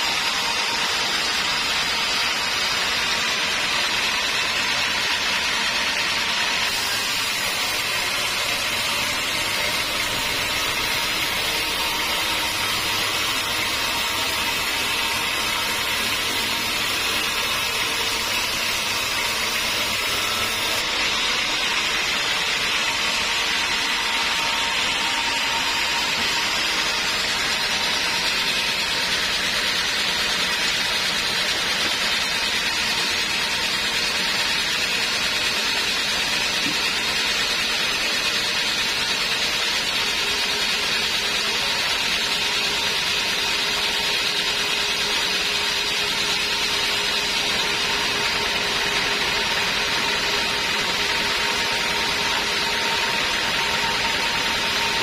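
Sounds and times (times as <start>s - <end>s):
band saw cutting logs: 0.0s - 55.0s.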